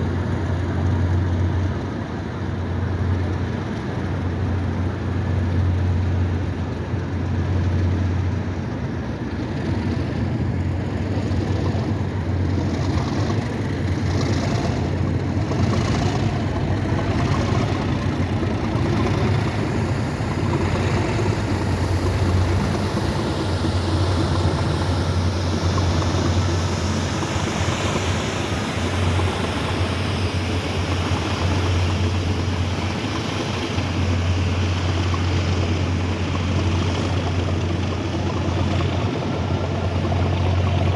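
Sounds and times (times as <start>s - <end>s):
locomotive diesel engines droning: 0.0s - 40.9s.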